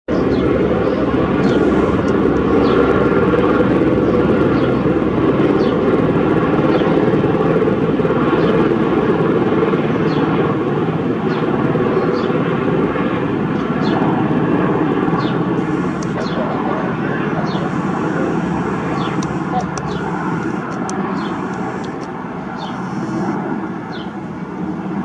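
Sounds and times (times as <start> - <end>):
helicopter rotor and turbine rumble: 0.1 - 25.0.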